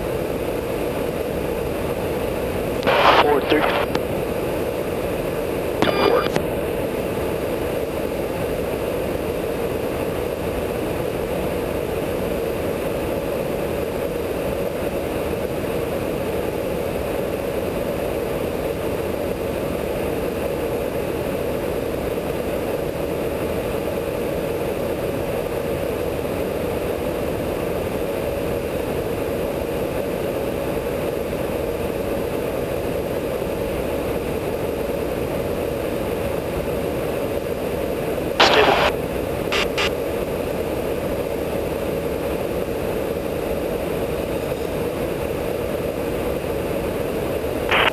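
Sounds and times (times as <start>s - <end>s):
aircraft engine and airflow drone: 0.0s - 47.9s.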